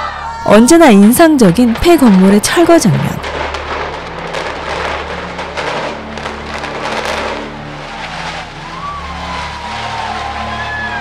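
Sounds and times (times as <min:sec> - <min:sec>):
sharp cracks: 0:01.2 - 0:10.1.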